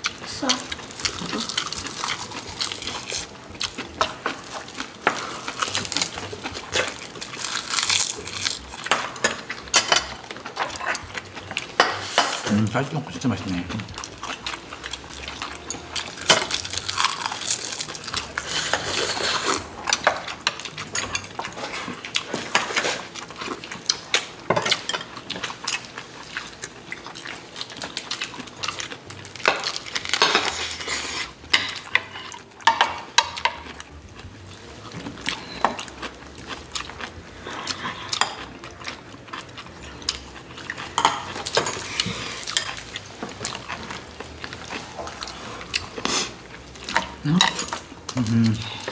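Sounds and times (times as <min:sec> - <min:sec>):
eating sounds: 0:00.0 - 0:48.9
cutlery clinking on dishes: 0:01.0 - 0:12.7, 0:13.4 - 0:26.6, 0:27.2 - 0:33.9, 0:34.7 - 0:48.9.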